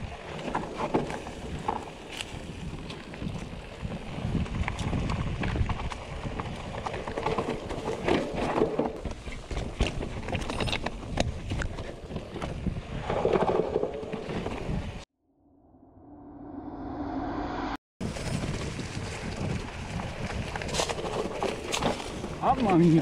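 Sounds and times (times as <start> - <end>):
wind on microphone: 0.0 - 8.0, 9.0 - 15.0, 16.2 - 22.5
bike tyres rumbling over rocks: 0.0 - 15.0, 18.0 - 23.0
bike rattling and knocking: 0.3 - 15.0, 18.0 - 23.0.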